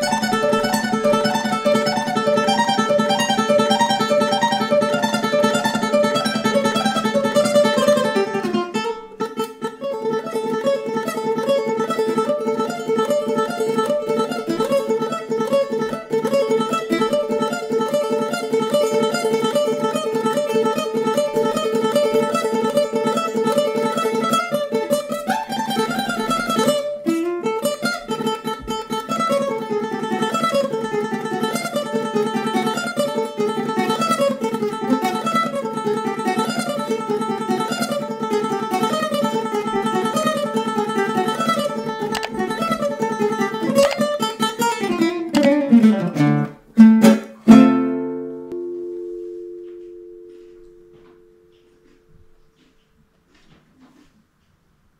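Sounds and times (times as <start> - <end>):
small nylon-string guitar solo: 0.0 - 52.8.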